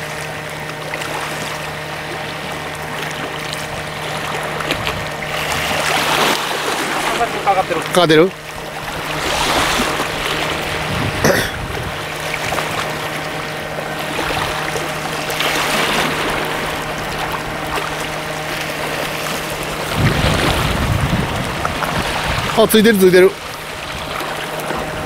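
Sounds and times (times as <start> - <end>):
sea waves on rocky shore: 0.0 - 25.0.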